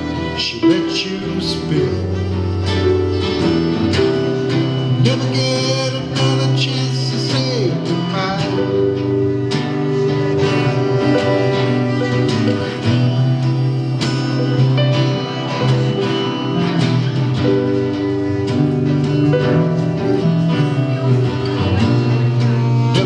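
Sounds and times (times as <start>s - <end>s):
live band playing guitar-led music: 0.0s - 23.0s.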